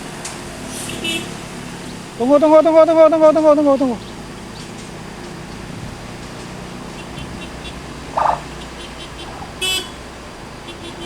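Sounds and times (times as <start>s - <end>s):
large vehicle engine idling: 0.0s - 11.0s.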